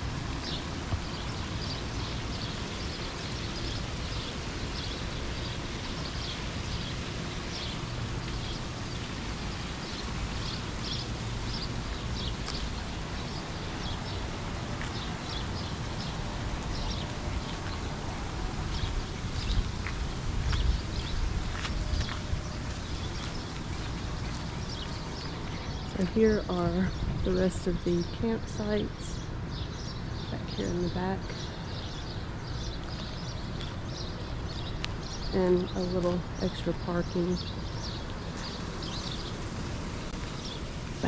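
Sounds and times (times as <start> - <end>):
birds chirping: 0.3 - 40.8.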